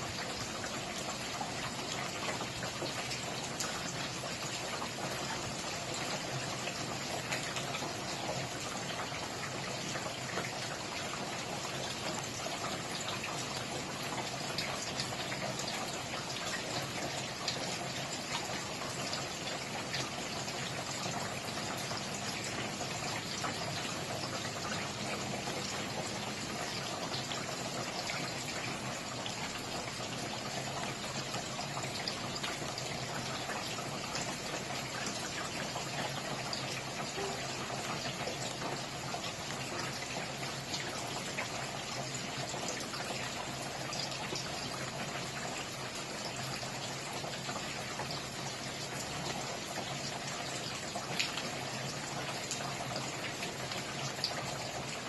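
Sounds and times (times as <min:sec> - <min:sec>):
raindrops ticking: 0:00.0 - 0:46.8
steady rain hiss: 0:00.0 - 0:55.0.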